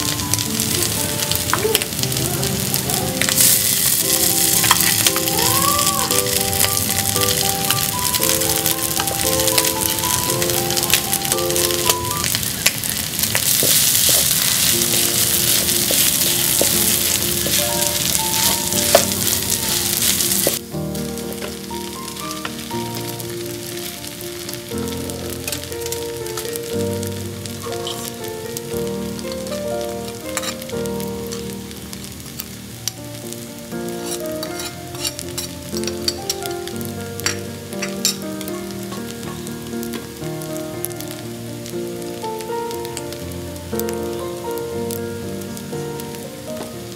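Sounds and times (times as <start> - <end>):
faint crackle: 0.0 - 46.9
food sizzling in a wok: 0.0 - 46.9
gentle piano music: 0.0 - 46.9.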